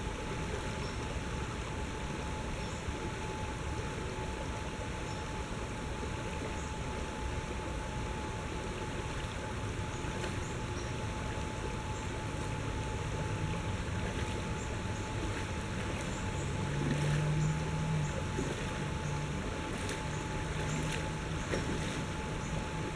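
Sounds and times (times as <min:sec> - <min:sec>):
river water running over rocks: 0:00.0 - 0:22.9.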